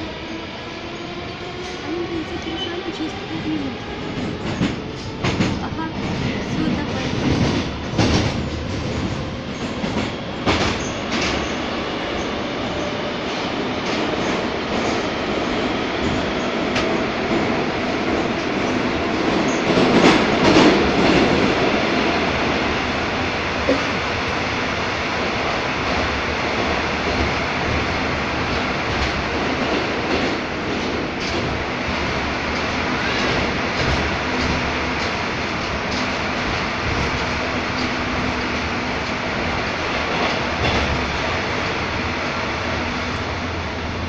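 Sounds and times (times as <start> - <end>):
metro train rumbling: 0.0 - 44.0.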